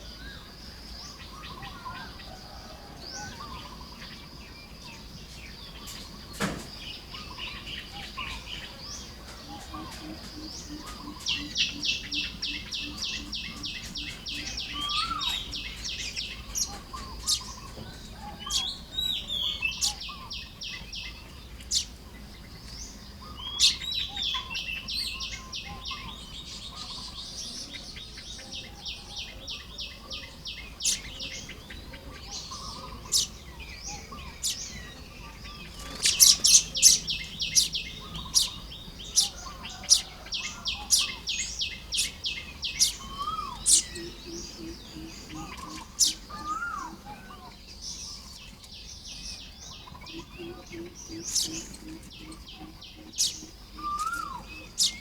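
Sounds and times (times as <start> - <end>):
weaver birds chattering: 0.0 - 55.0.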